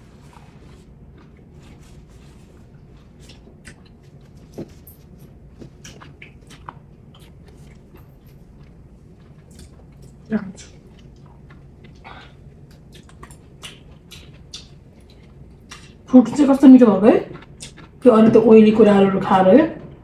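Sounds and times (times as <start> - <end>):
chewing and mouth noises: 0.0 - 18.1.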